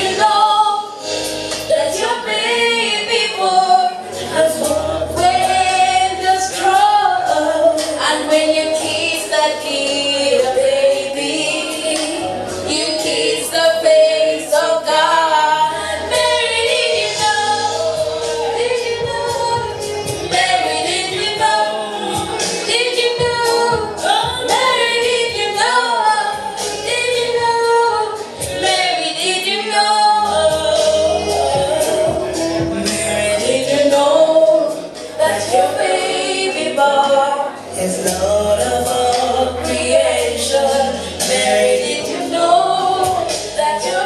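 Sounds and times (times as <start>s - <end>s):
woman singing into microphone: 0.0s - 44.0s.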